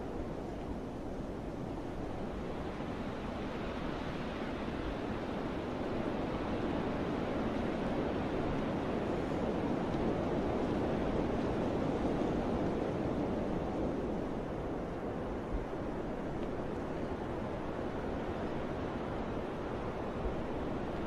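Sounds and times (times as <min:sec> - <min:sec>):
wind rushing through trees: 0:00.0 - 0:21.0.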